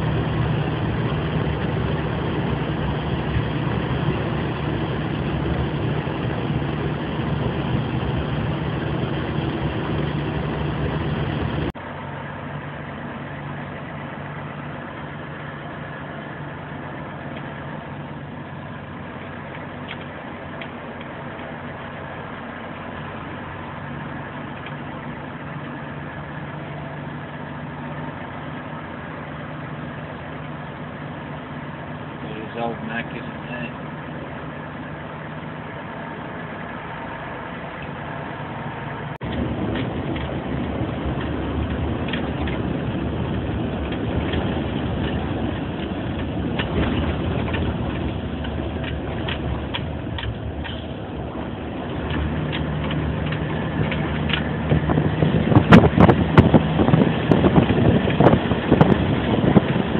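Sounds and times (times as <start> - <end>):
road noise: 0.0 - 59.9
truck engine from inside cab: 0.0 - 59.9.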